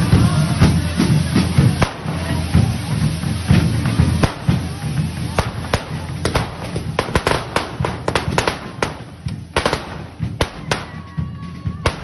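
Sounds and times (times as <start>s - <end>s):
spark-spraying pyrotechnics: 0.0s - 11.1s
firecracker bangs: 0.0s - 12.0s.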